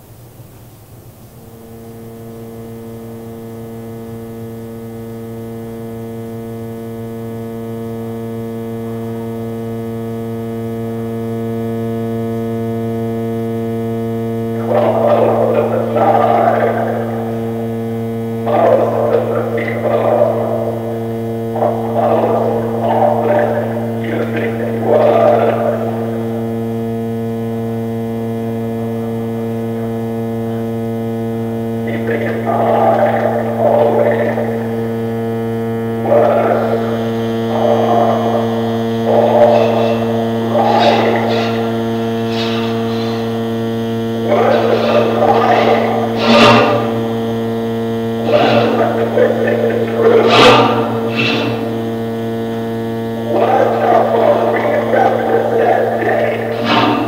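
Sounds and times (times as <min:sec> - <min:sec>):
electronic drone: 0:00.0 - 0:57.0
rough noisy synthesizer swell: 0:00.0 - 0:57.0
harsh gritty noise: 0:01.7 - 0:57.0.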